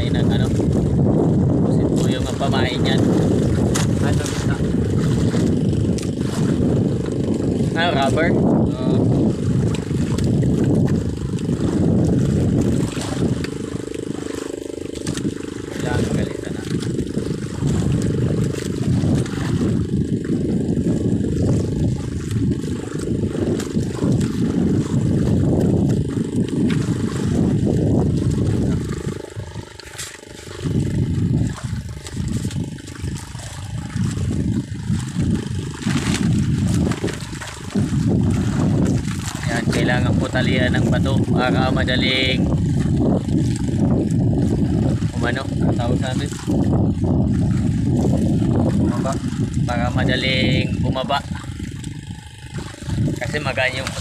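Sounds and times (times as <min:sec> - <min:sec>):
generator engine pulsing: 0:00.0 - 0:54.0
irregular low rumble: 0:00.0 - 0:54.0
wind buffeting microphone: 0:00.0 - 0:54.0.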